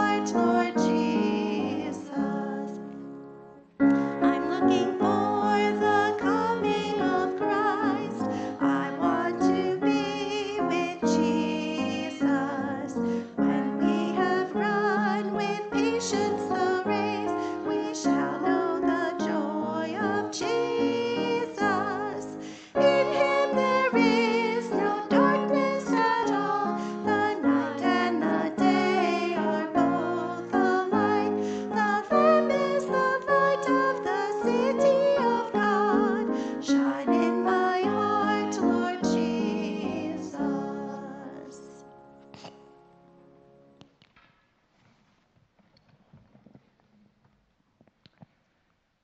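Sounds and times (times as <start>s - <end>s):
women singing a hymn: 0.0s - 3.0s, 3.9s - 41.9s
piano accompaniment: 0.0s - 43.8s.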